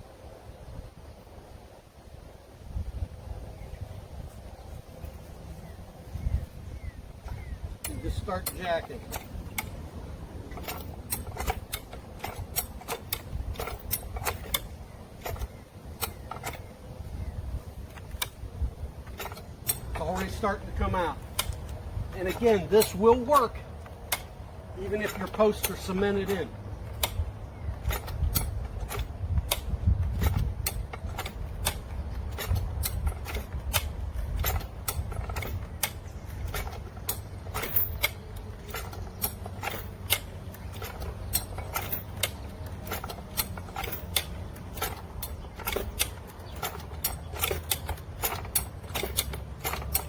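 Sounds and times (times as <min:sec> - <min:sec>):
farm jack metallic clicks and clanks: 0:07.2 - 0:50.0.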